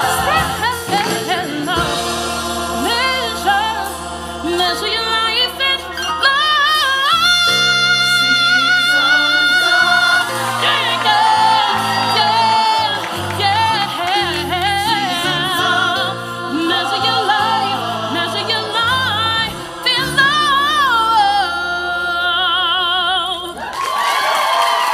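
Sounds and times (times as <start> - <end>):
band backing chords: 0.0 - 23.0
woman singing with vibrato: 0.0 - 23.7.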